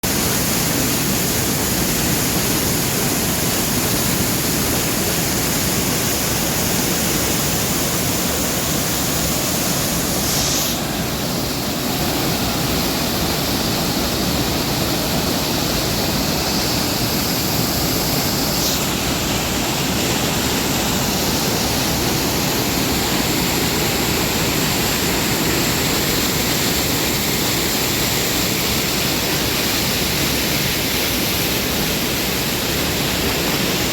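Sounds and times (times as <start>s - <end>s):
waterfall and river rushing: 0.0s - 33.9s.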